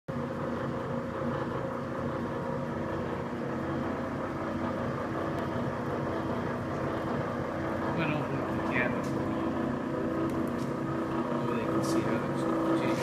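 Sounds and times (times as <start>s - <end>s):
lathe machine hum: 0.1s - 13.0s.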